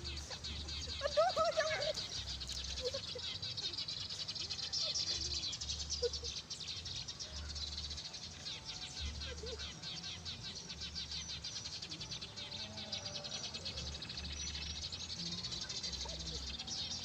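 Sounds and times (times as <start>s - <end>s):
sparrows chirping: 0.0s - 17.0s.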